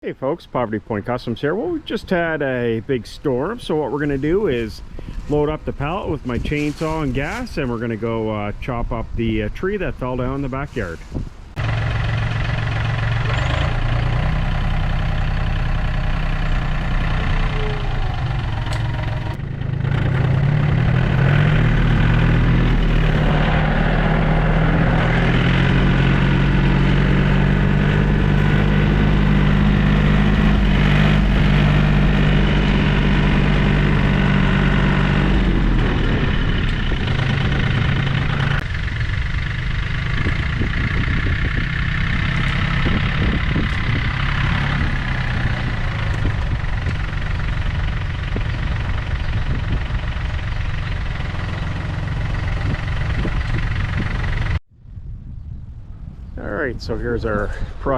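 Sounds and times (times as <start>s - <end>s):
tractor diesel engine running: 0.9s - 54.7s.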